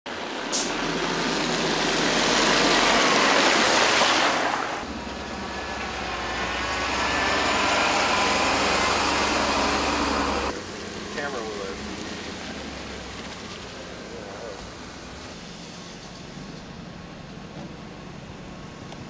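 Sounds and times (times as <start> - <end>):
tyres hissing on wet road: 0.1 - 17.3
fire engine passing: 0.1 - 18.9
vehicle engine rumble: 0.1 - 19.0.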